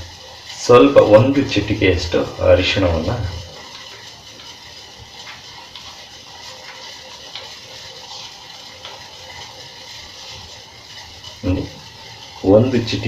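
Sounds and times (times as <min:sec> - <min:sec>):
pot boiling with hiss: 0:00.0 - 0:13.0.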